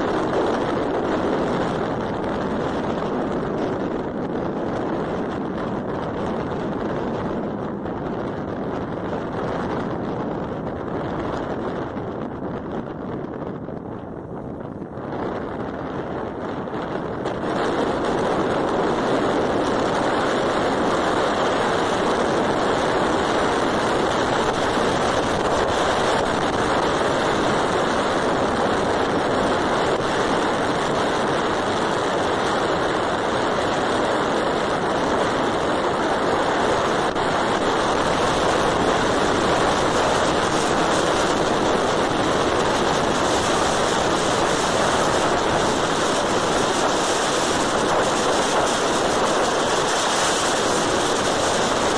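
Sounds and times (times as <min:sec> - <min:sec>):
vehicle road noise: 0:00.0 - 0:51.9
wind buffeting microphone: 0:00.0 - 0:51.9.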